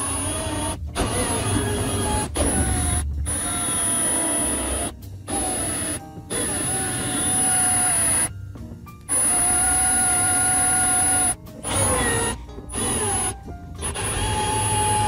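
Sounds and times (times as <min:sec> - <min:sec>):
cordless drill whining: 0:00.0 - 0:08.3, 0:09.1 - 0:15.0.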